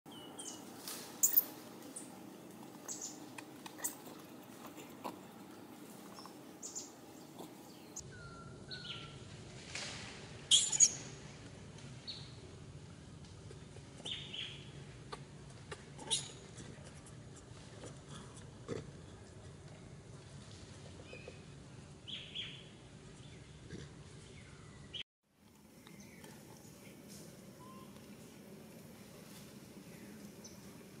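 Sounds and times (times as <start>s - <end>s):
faint outdoor background: 0.1s - 31.0s.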